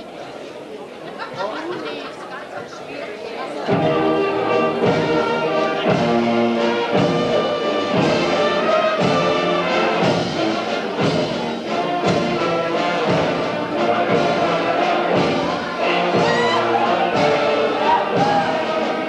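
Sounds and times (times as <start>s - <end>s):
brass-led wind band playing: 3.7s - 19.0s.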